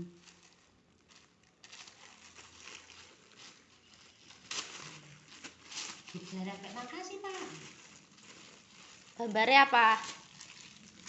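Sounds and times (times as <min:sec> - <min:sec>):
gift wrapping rustling: 0:00.0 - 0:11.0.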